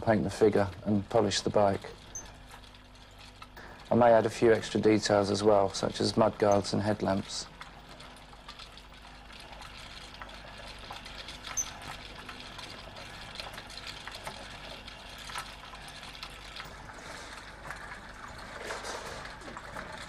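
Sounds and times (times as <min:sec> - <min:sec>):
mechanism clicking and rattling: 0:00.5 - 0:20.0.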